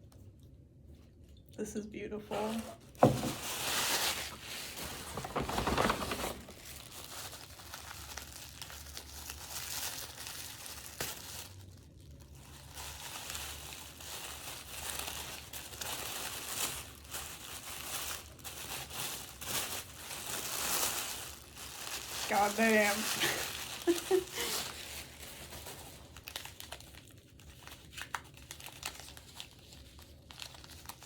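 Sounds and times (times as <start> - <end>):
gift wrapping crinkling: 2.3 - 31.0.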